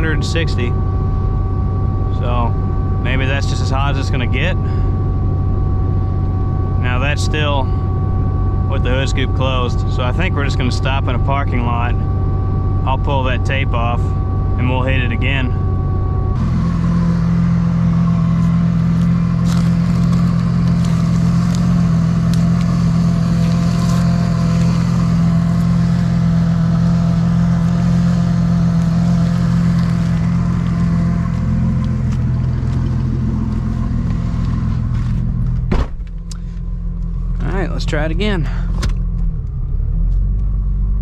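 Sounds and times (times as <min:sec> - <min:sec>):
car engine running at low revs: 0:00.0 - 0:41.0.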